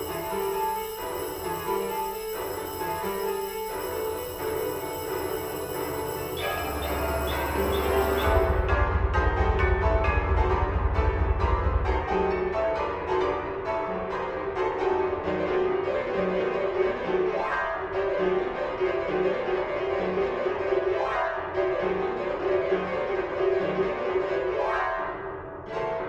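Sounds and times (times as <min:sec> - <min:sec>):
instrumental piano-like keyboard music: 0:00.0 - 0:26.0.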